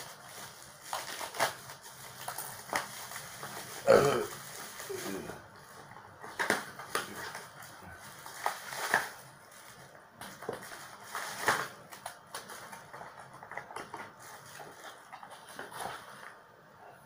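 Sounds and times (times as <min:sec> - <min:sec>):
plastic wrapping crinkling: 0:00.0 - 0:16.5.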